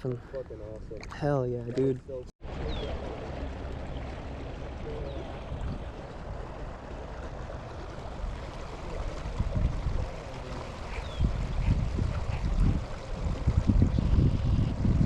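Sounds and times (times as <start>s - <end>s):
water lapping and gurgling: 0.0s - 15.0s
wind buffeting microphone: 0.0s - 15.0s.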